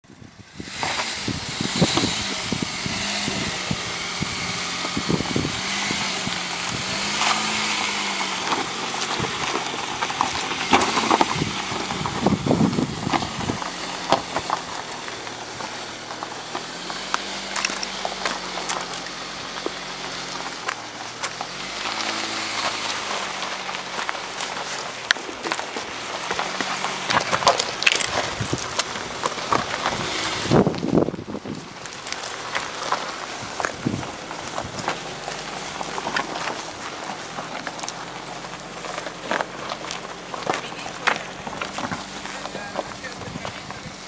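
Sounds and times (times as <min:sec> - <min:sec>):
car engine pulling under load: 0:00.0 - 0:44.0
knocks and crackles: 0:04.4 - 0:44.0.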